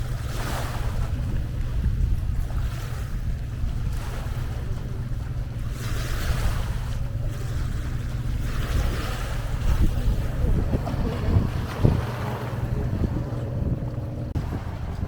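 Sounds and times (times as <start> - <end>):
sea waves washing onto shore: 0.0 - 15.0
wind rumble on microphone: 0.0 - 15.0.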